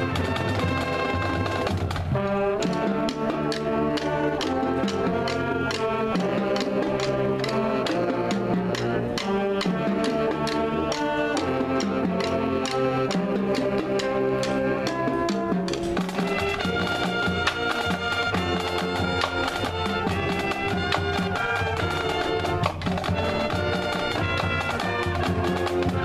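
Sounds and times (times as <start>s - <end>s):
saxophones and brass chords: 0.0s - 26.0s
snare and bass drums beat: 0.0s - 26.0s.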